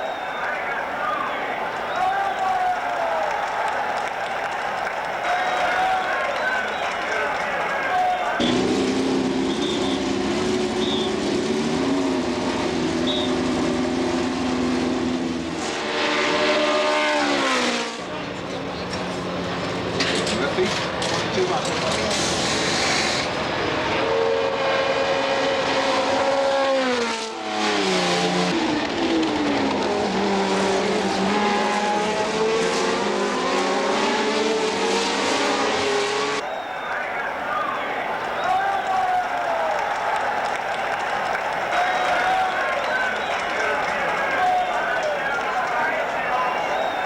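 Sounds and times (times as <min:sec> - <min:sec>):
race car engines running: 0:00.0 - 0:47.0.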